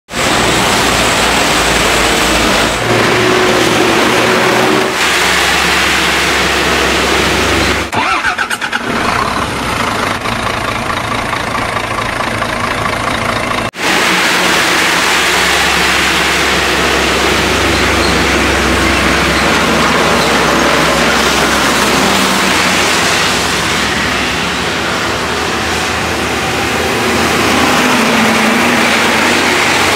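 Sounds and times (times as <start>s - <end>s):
diesel truck engines humming: 0.1s - 29.9s
tyres on wet road: 0.1s - 29.9s.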